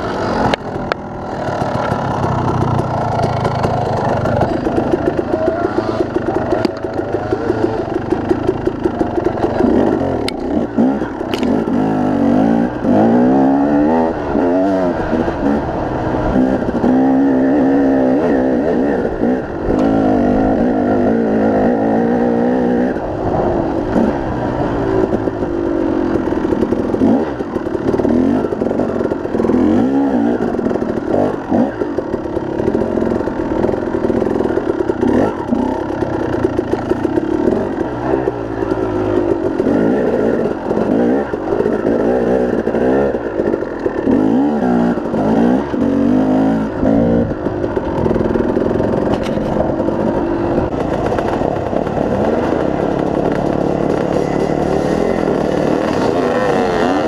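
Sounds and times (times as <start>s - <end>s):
bike knocking and rattling: 0.0s - 57.0s
dirt bike engine revving: 0.0s - 57.0s.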